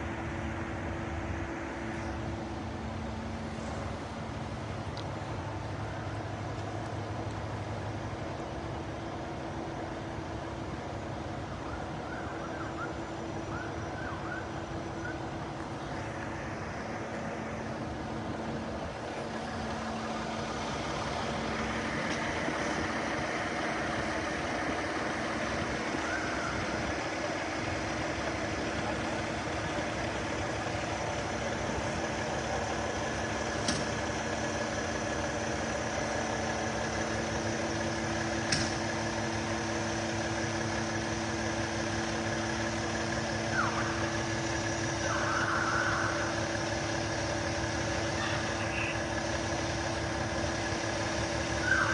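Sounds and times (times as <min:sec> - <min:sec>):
fire truck engines idling: 0:00.0 - 0:51.9.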